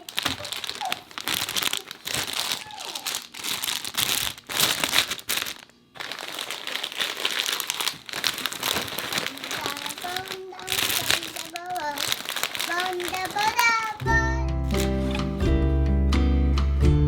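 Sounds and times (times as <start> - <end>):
plastic packaging crinkling: 0.0 - 15.5.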